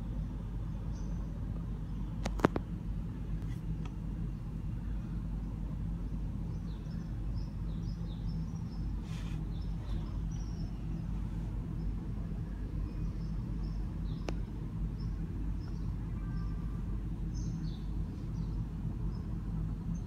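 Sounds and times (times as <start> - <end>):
distant traffic hum: 0.0 - 20.0.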